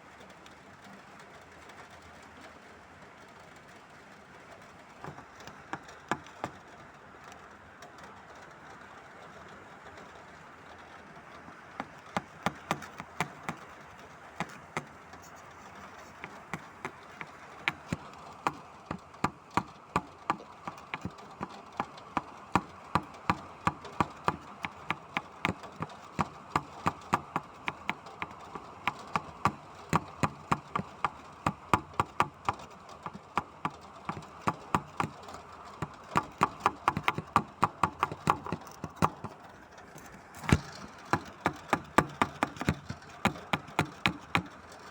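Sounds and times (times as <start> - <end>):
raindrops tapping hard surface: 0.1 - 44.9.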